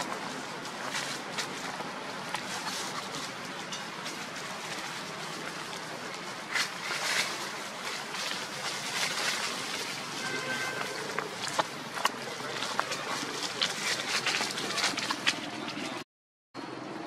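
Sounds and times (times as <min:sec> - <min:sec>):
leaves crunching: 0:00.0 - 0:15.9
dry leaves rustling and crackling: 0:00.0 - 0:16.0.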